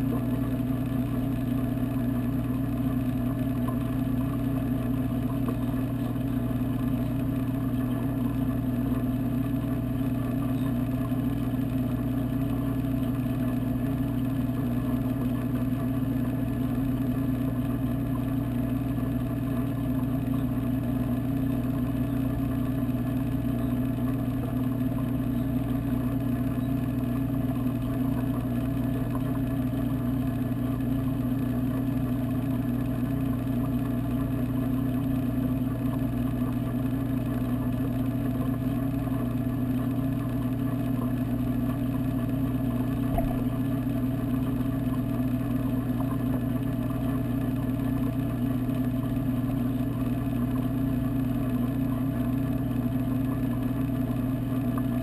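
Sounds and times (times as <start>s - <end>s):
aquarium pumps humming underwater: 0.0s - 55.0s.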